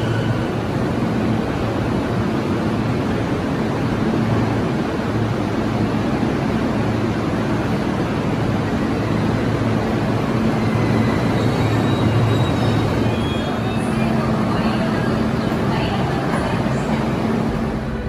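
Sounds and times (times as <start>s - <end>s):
train rumbling slowly: 0.0s - 18.0s.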